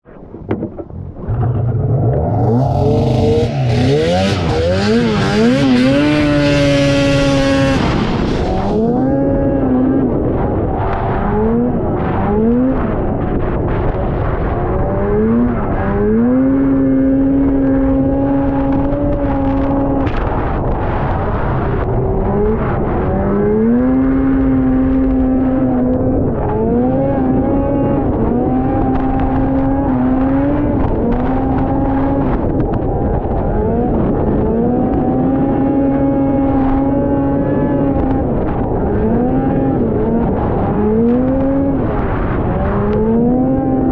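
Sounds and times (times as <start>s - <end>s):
snowmobile engine whining: 0.2s - 43.9s.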